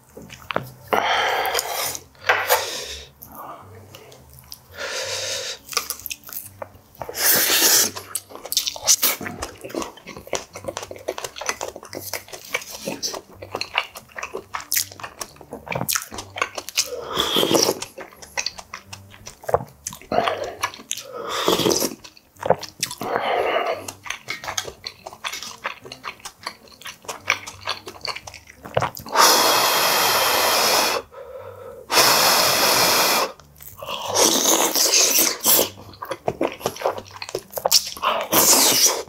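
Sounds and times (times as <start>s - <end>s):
wet chewing and slurping: 0.0s - 3.3s, 4.1s - 31.2s, 31.9s - 39.0s.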